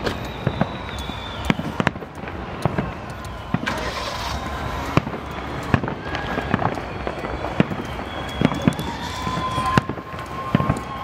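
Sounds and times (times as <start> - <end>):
firework hiss: 0.0 - 11.0
fireworks bangs: 0.0 - 11.0.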